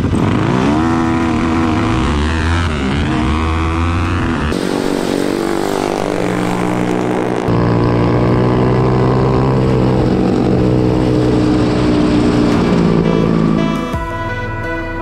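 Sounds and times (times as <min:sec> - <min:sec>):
single-cylinder engine running hard: 0:00.0 - 0:15.0.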